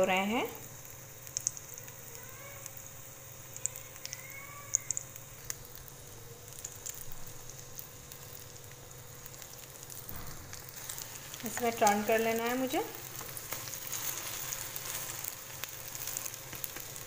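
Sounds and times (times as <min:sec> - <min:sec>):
bread frying in oil: 0:00.0 - 0:17.0
oil crackling and popping: 0:00.1 - 0:17.0.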